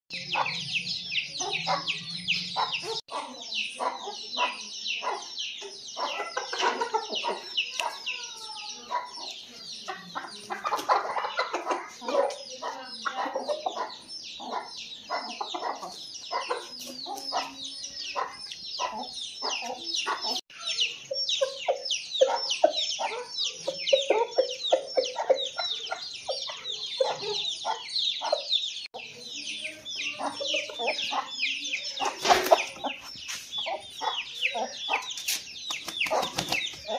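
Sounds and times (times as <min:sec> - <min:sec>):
chickens clucking: 0:00.1 - 0:36.9
rapid high-pitched chirping: 0:00.1 - 0:36.9.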